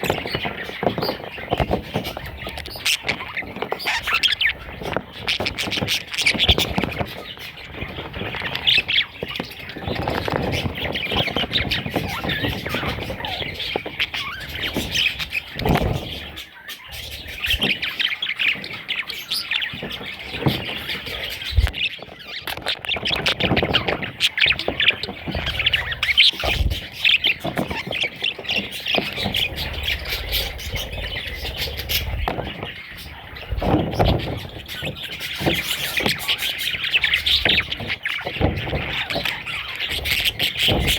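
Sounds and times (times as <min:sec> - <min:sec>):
budgerigar chicks chattering: 0:00.0 - 0:40.9.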